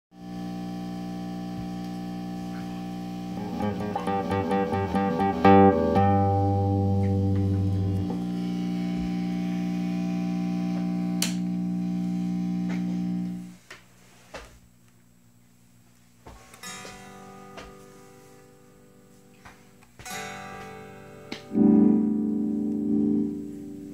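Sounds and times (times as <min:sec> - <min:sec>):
guitar amp buzzing hum: 0:00.1 - 0:13.8, 0:14.7 - 0:23.9.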